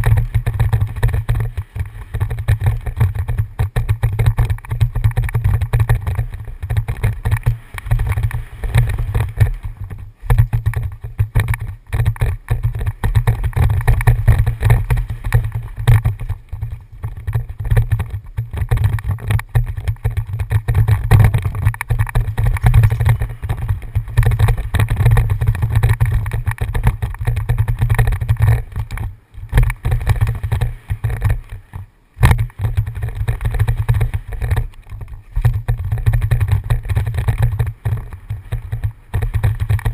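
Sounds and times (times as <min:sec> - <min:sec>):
bike knocks and rattles: 0:00.0 - 0:39.9
wind buffeting microphone: 0:00.0 - 0:39.9.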